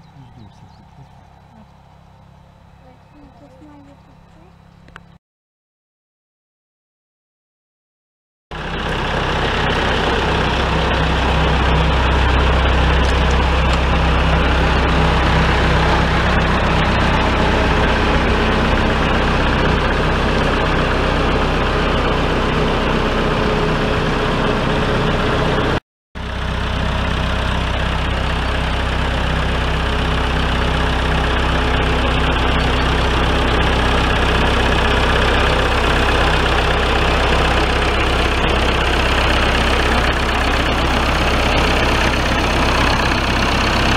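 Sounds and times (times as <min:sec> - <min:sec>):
tractor engine droning: 0:00.0 - 0:05.2, 0:08.5 - 0:43.9.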